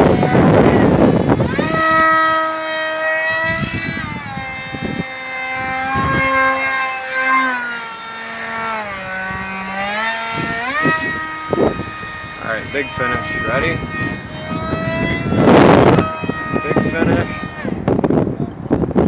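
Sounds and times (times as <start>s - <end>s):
model jet motor whine: 0.0s - 19.0s
wind buffeting microphone: 0.0s - 19.0s.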